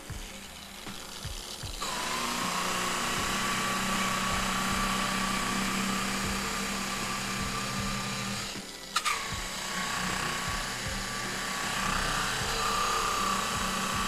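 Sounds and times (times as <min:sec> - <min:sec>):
sanding tool whining: 0:00.0 - 0:14.0.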